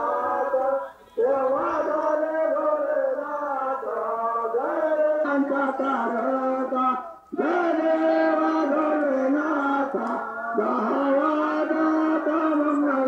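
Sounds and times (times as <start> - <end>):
chanting over horn loudspeakers: 0.0 - 13.0.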